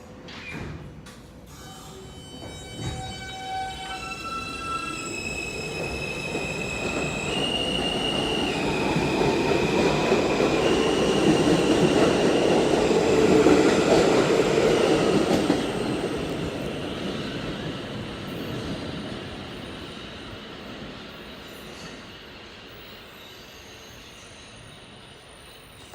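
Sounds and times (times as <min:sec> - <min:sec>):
subway propulsion whine: 0:01.4 - 0:25.9.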